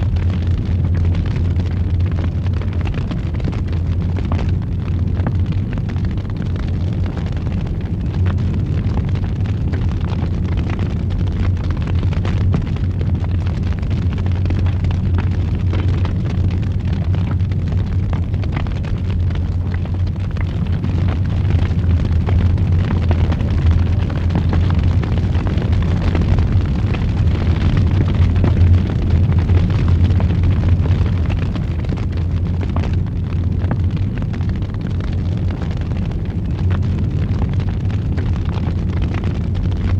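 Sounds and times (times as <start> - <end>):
fire crackles and pops: 0.0 - 39.9
fire roaring in fireplace: 0.0 - 39.9.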